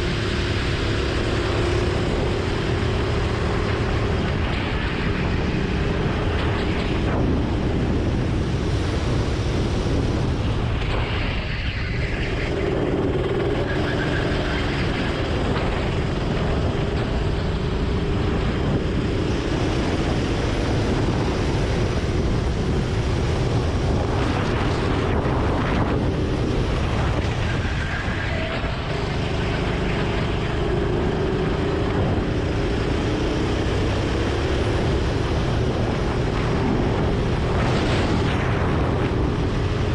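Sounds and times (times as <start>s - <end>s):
go-kart engine racing: 0.0s - 39.9s.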